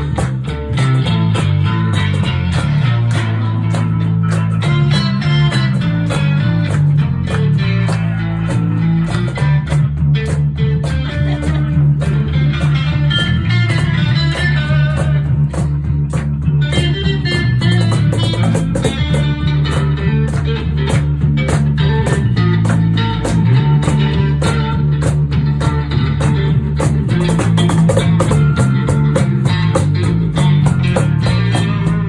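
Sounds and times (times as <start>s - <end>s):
bass line: 0.0s - 32.0s
guitar: 0.0s - 32.0s
percussion beat: 0.0s - 32.0s.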